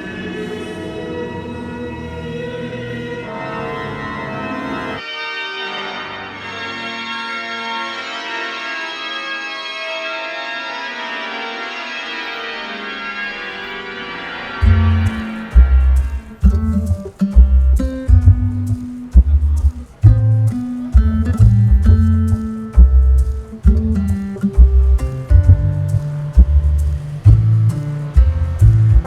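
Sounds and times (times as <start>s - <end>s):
sustained organ chords: 3.2s - 29.0s.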